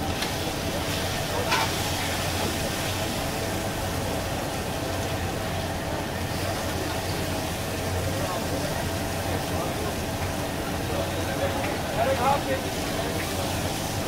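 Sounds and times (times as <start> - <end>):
fish deep-frying in hot oil: 0.0 - 14.0.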